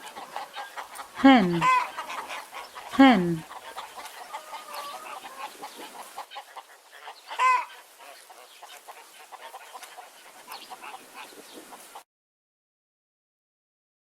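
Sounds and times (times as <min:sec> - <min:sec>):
hens clucking: 0:00.0 - 0:12.0
hen squawk: 0:00.1 - 0:11.3.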